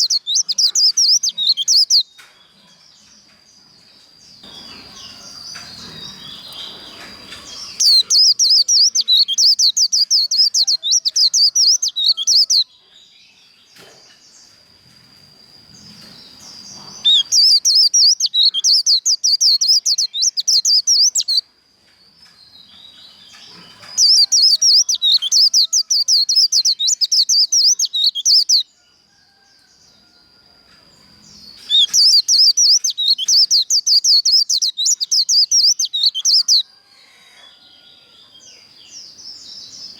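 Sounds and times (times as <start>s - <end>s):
bird twittering song: 0.0s - 21.4s, 22.2s - 30.1s, 31.2s - 39.9s.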